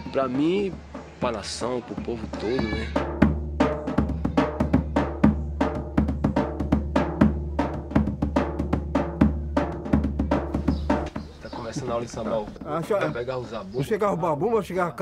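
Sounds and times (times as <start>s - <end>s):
drumming with percussion: 0.0s - 14.7s.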